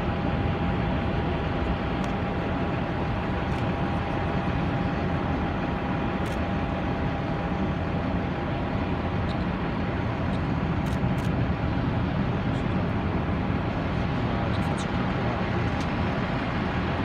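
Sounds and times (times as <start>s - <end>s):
engine rumble and hiss: 0.0s - 17.0s
faint steady whine: 0.0s - 17.0s.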